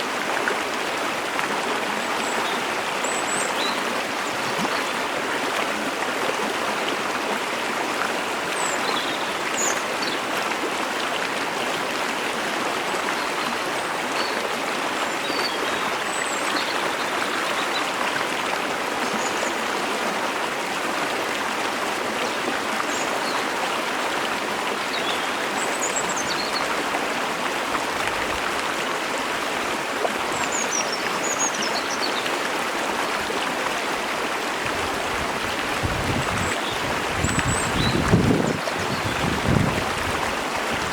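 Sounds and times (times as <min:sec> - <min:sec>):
stream and waterfall rushing: 0:00.0 - 0:40.9.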